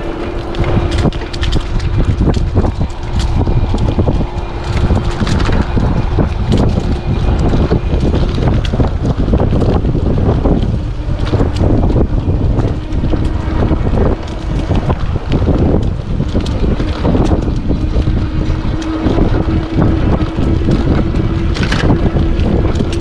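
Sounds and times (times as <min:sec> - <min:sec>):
faint electric motor whine: 0:00.0 - 0:23.0
tyres rolling over leaves: 0:00.0 - 0:23.0
wind buffeting microphone: 0:00.0 - 0:23.0
small ticks: 0:00.4 - 0:23.0.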